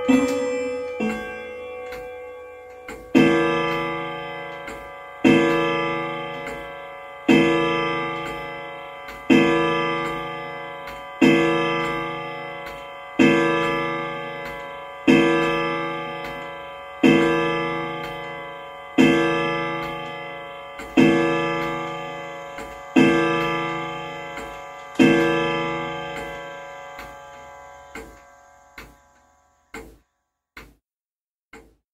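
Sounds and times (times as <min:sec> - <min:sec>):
clock chime strokes ringing: 0:00.0 - 0:29.9
clock ticking: 0:00.0 - 0:30.8, 0:31.5 - 0:31.8.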